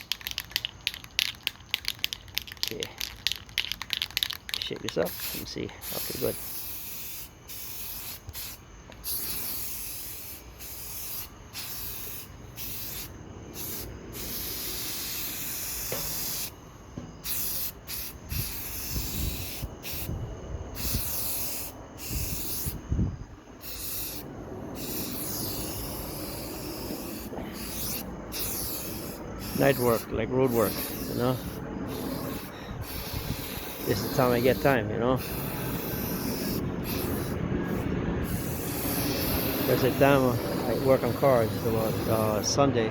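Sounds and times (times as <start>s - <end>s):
aerosol spray can hissing: 0.0s - 16.5s, 17.2s - 20.2s, 20.8s - 22.8s, 23.6s - 42.5s.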